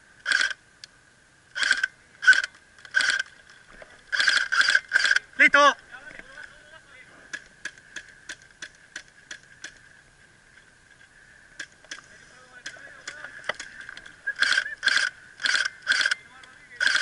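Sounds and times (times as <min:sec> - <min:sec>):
steady high whine: 0:00.0 - 0:17.0.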